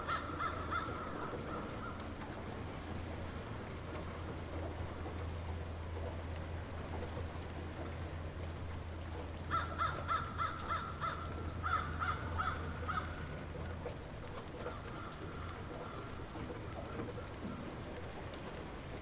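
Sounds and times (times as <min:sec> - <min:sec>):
light rain falling: 0:00.0 - 0:19.0
low steady hum: 0:00.0 - 0:19.0.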